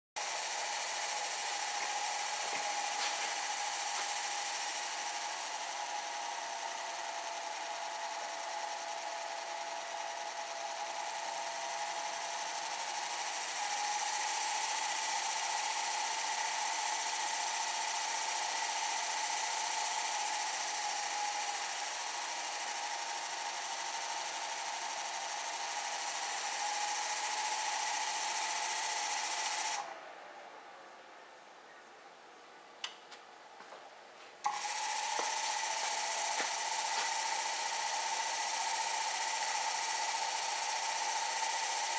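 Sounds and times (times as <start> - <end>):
electric motor whine: 0.2 - 31.0, 34.4 - 41.9.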